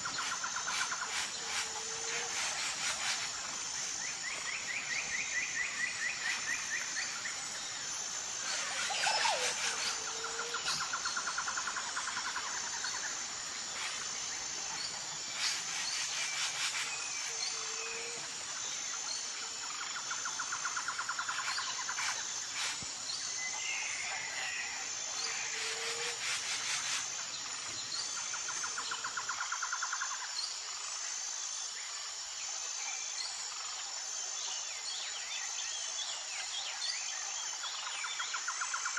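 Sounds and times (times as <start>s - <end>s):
pulsing insect chorus: 0.0s - 38.9s.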